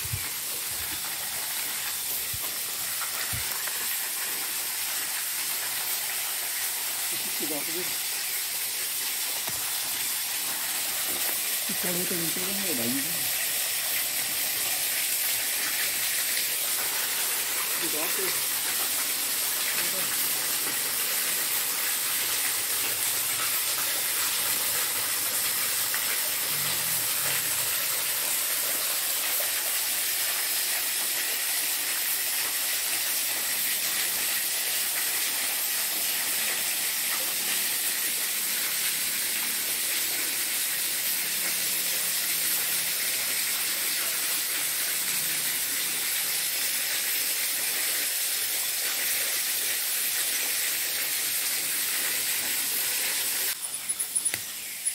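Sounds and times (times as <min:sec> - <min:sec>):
night forest insect hiss: 0:00.0 - 0:54.9.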